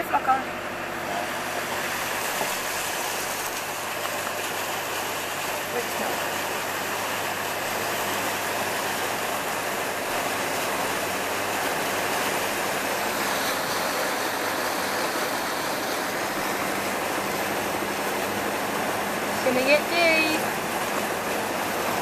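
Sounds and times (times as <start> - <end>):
diesel engine humming: 0.0 - 22.0
rushing water hiss: 0.6 - 22.0.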